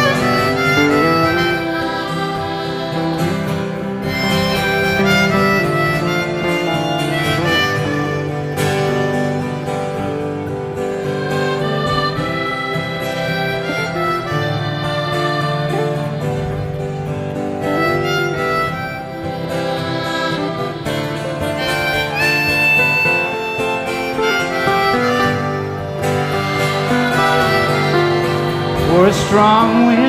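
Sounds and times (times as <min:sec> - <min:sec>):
guitar accompaniment: 0:00.0 - 0:30.0
harmonica: 0:00.0 - 0:30.0.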